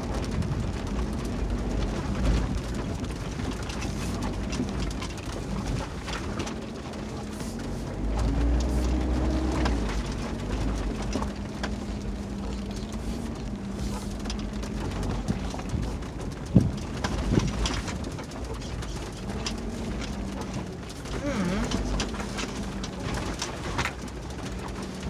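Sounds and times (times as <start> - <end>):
car engine humming: 0.0 - 25.0
tyres knocking and rattling: 0.0 - 25.0.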